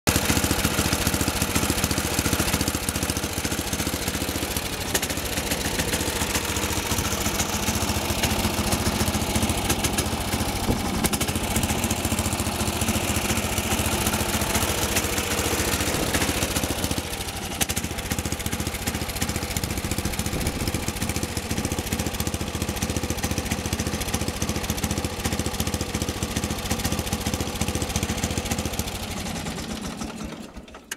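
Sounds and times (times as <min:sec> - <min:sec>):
lawn tractor engine running: 0:00.1 - 0:30.9.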